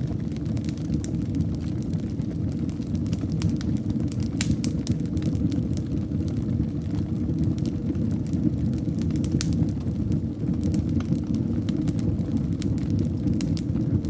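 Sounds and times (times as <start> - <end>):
fire crackling and popping: 0.0 - 14.0
fire rumbling in a fireplace: 0.0 - 14.0.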